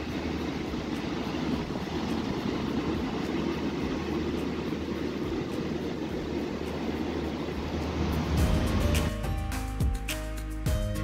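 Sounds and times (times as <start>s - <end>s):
ocean waves breaking on beach: 0.0s - 9.2s.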